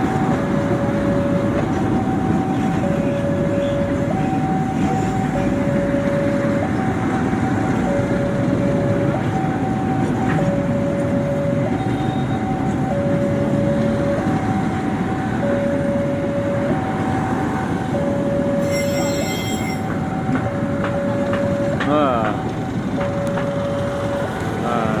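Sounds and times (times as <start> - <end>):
train wheels rumbling on rail: 0.0 - 25.0
two-tone siren: 0.0 - 25.0.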